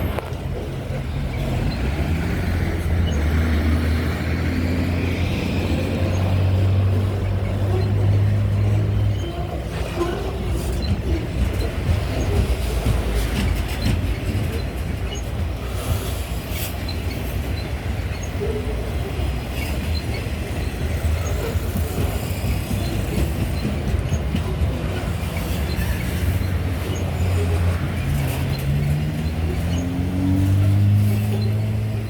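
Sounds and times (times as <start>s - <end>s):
freight train rumbling and rattling: 0.0s - 32.0s.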